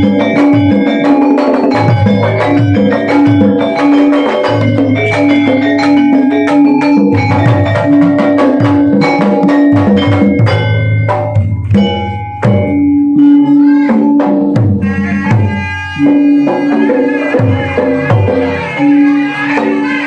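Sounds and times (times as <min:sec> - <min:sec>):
hand drum strokes: 0:00.0 - 0:20.0
high sliding melodic line: 0:00.0 - 0:20.0
struck metallophones ringing: 0:00.0 - 0:20.0.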